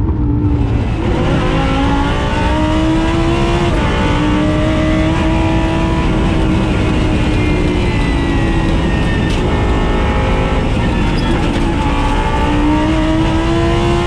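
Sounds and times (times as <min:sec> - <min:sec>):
race car engine revving: 0:00.0 - 0:14.0.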